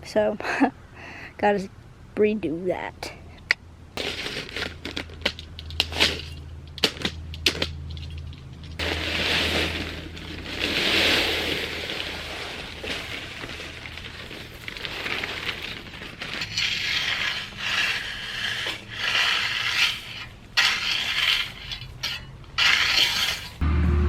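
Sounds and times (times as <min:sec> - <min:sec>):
scraping and rattling: 0:04.0 - 0:23.6.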